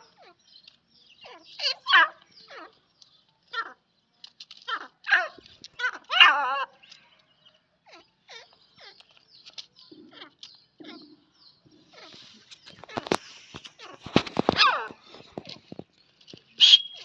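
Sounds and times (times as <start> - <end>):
birds making squeaky calls: 0.0 - 17.0.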